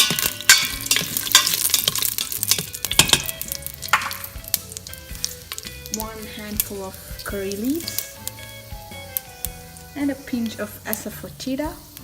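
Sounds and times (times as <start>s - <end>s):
seeds sizzling and popping in oil: 0.0s - 12.0s.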